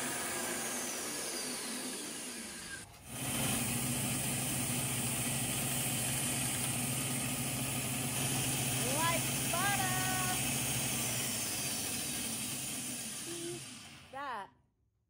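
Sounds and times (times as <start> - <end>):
blade cutting wood: 0.0 - 14.2
bandsaw motor running: 0.0 - 14.3.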